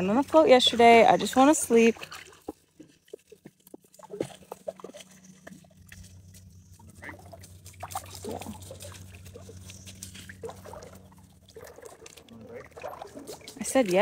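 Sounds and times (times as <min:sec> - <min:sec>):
steady low hum: 0:00.0 - 0:14.0
dog splashing in water: 0:01.4 - 0:14.0.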